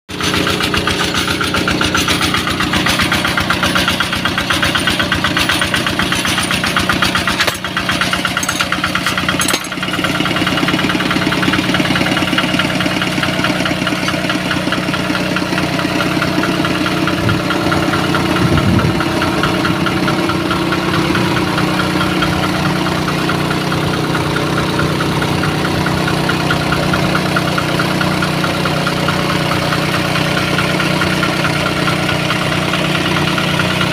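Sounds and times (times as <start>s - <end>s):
drilling machine engine running: 0.1s - 33.9s.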